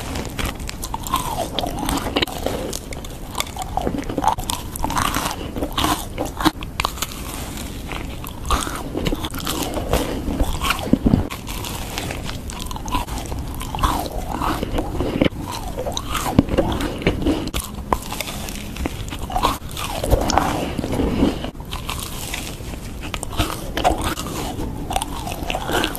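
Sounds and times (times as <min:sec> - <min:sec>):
chewing: 0:00.0 - 0:25.9
crisp cookie crunching: 0:00.0 - 0:25.9.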